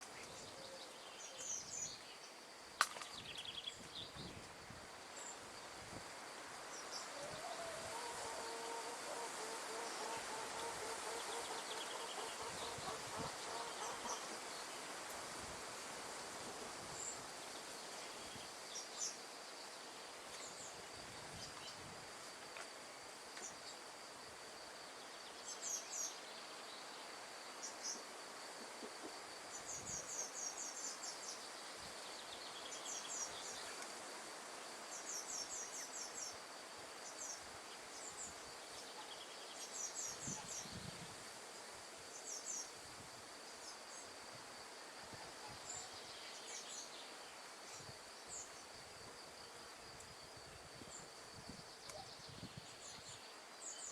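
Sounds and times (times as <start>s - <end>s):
wind rustling leaves: 0.0s - 53.9s.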